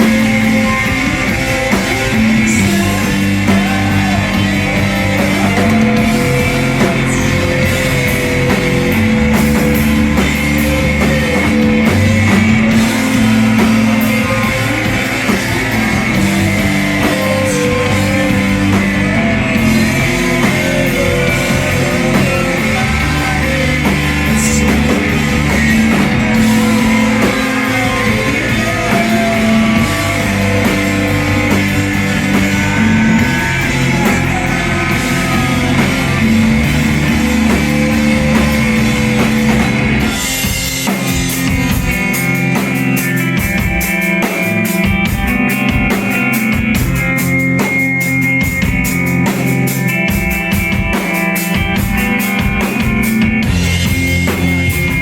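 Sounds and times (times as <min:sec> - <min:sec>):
drums and cymbals striking: 0:00.0 - 0:55.0
ringing guitar chords: 0:00.0 - 0:55.0
rock band playing live: 0:00.0 - 0:55.0.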